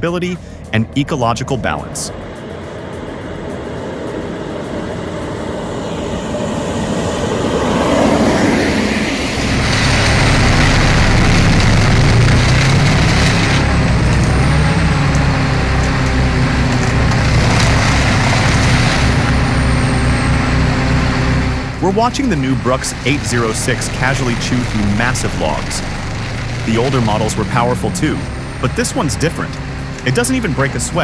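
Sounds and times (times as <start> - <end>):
truck diesel engine: 0.0 - 31.0.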